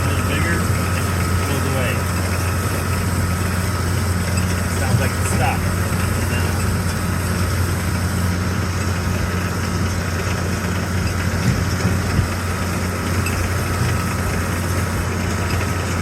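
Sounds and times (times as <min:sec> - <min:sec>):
tractor engine and baler humming: 0:00.0 - 0:16.0.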